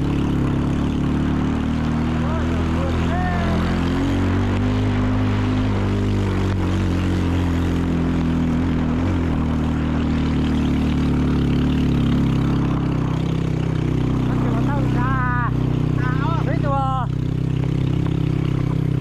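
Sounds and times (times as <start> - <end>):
motorbike engine running: 0.0 - 19.0.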